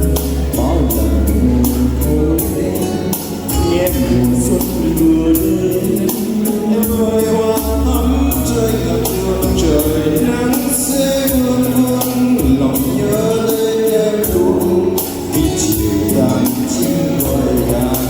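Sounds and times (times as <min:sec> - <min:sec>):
loud music with steady beat: 0:00.0 - 0:18.0.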